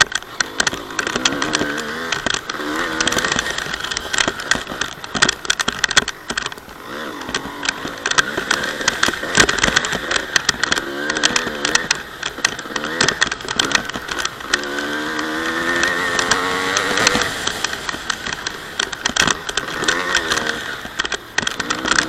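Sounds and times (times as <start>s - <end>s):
dirt bike engine revving: 0.0s - 22.0s
sharp knocks and rattles: 0.0s - 22.0s.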